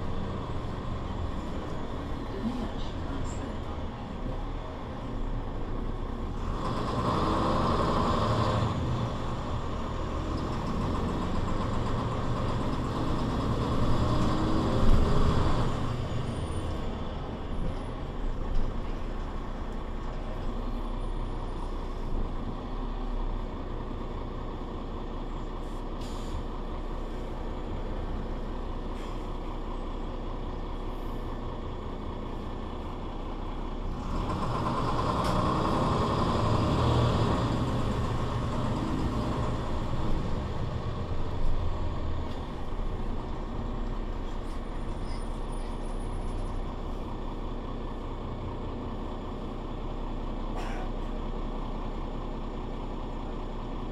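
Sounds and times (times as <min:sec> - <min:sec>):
city bus running: 0:00.0 - 0:53.9.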